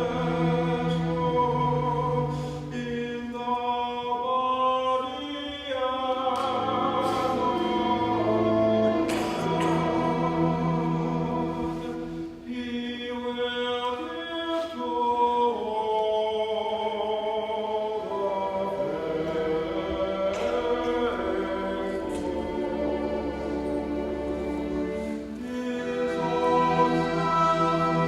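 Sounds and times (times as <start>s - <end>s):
choir singing slow chords: 0.0s - 28.0s.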